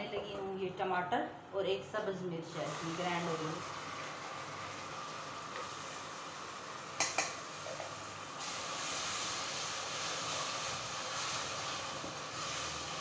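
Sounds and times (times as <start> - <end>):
paste sizzling in oil: 2.5 - 13.0.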